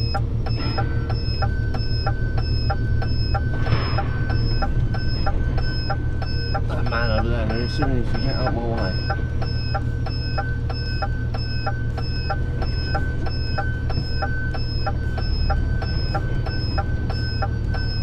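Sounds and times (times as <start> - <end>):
truck diesel engine running: 0.0 - 18.0
turn signal ticking: 0.0 - 18.0.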